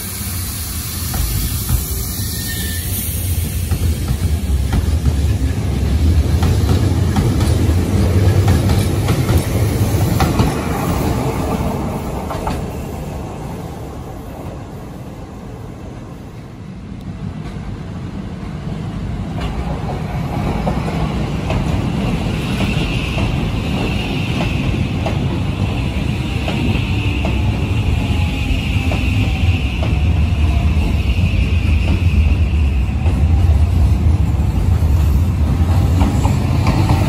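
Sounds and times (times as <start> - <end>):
arriving train rumble: 0.0 - 37.0
train wheels clattering: 0.9 - 13.0, 19.3 - 37.0.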